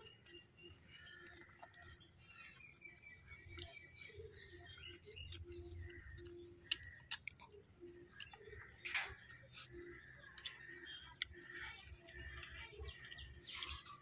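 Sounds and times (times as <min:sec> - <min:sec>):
person chewing: 0:00.0 - 0:08.6, 0:09.5 - 0:14.0.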